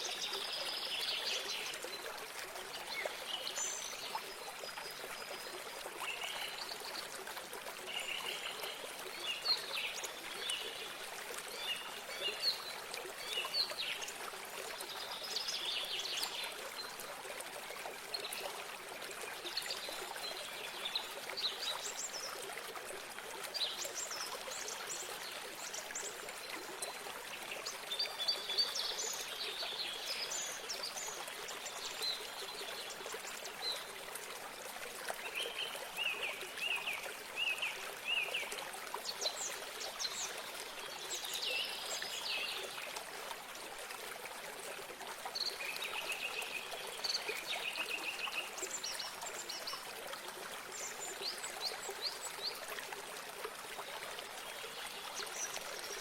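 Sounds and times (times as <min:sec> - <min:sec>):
stream of water running: 0:00.0 - 0:56.0.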